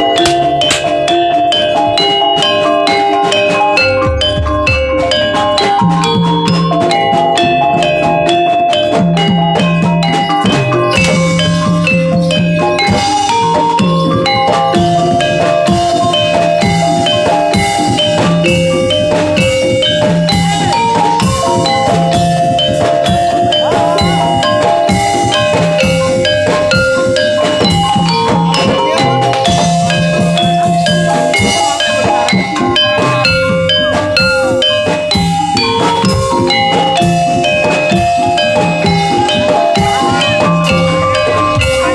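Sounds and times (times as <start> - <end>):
hand drum beats: 0.0 - 41.9
metal mallet instruments: 0.0 - 41.9.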